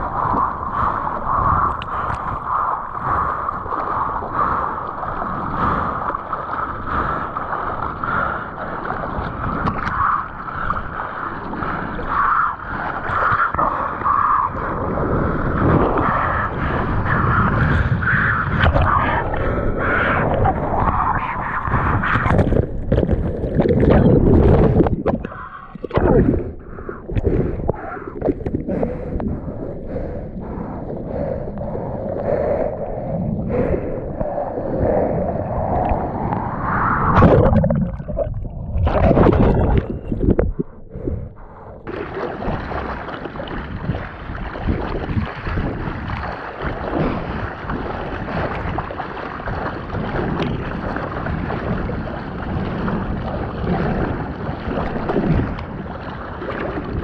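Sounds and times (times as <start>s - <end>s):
water splashing over surfboard: 0.0s - 32.4s, 33.5s - 40.8s, 41.6s - 57.0s
muffled underwater surf churning: 0.0s - 57.0s.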